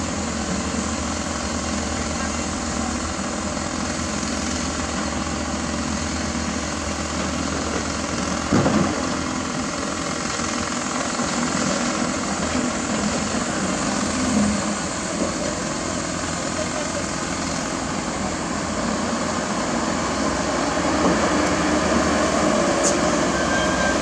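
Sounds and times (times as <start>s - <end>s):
excavator diesel engines running: 0.0s - 24.0s.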